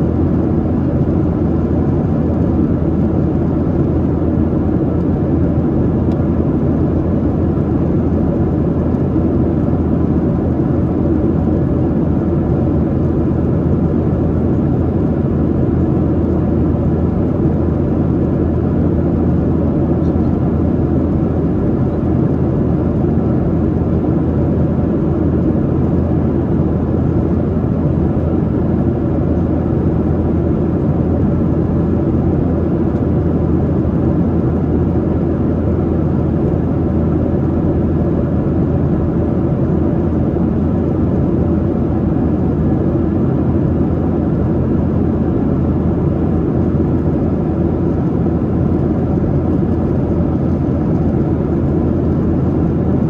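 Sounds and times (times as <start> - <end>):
jet engine drone: 0.0 - 53.0.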